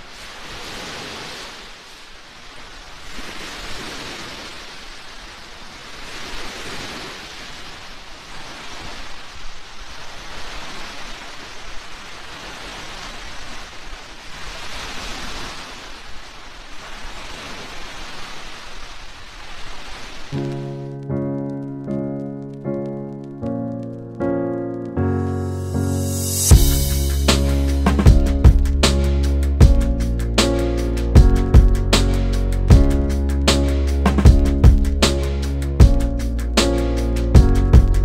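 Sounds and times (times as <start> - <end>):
small waves washing onto shore: 0.0 - 38.0.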